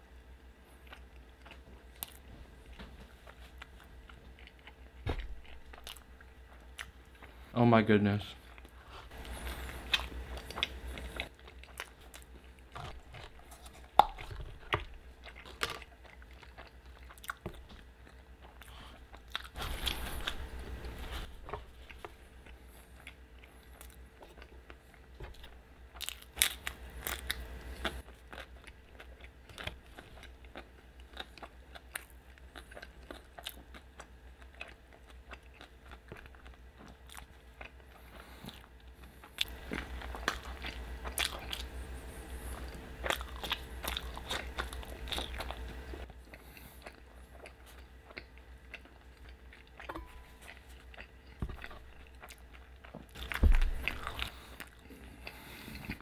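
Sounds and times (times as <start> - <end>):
person chewing food: 0.6 - 7.5, 8.4 - 56.0.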